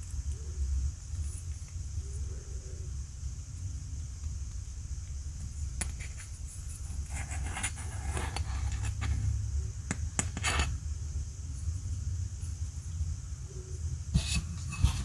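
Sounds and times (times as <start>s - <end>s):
steady low hum and hiss: 0.0s - 15.0s.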